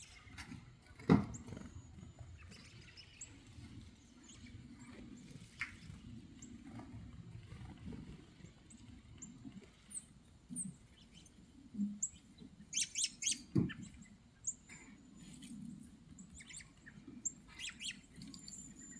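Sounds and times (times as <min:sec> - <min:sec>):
small songbirds chirping: 0:00.0 - 0:06.6, 0:08.0 - 0:18.9.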